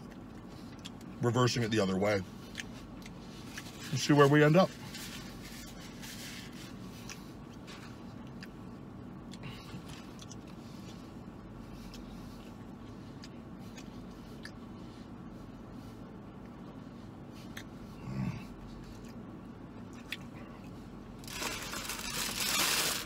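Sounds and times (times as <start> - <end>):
man chewing: 0.0 - 1.2, 2.2 - 4.0, 4.8 - 23.0
low hum inside a car: 0.0 - 23.0.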